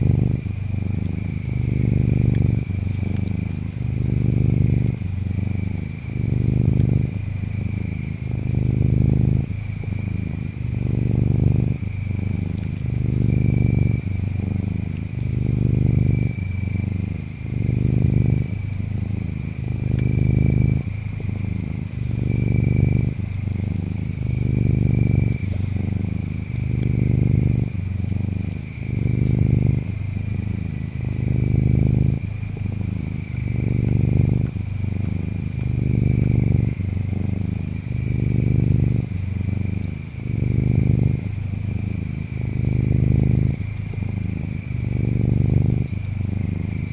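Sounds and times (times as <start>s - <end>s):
cat purring: 0.0s - 46.9s
faint insect chirps: 0.0s - 46.9s.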